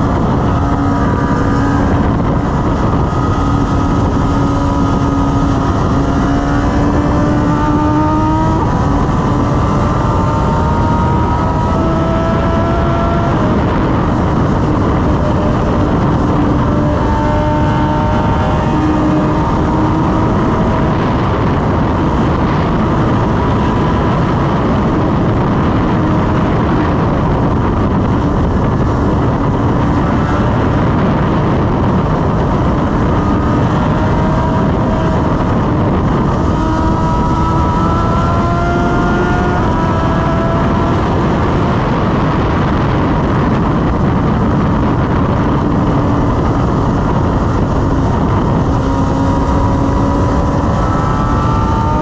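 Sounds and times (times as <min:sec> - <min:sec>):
motorcycle engine cruising: 0:00.0 - 0:52.0
wind noise on microphone: 0:00.0 - 0:52.0.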